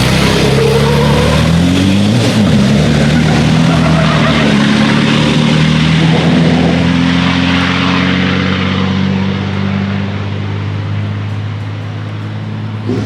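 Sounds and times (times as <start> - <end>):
racing truck engine running: 0.0 - 13.0.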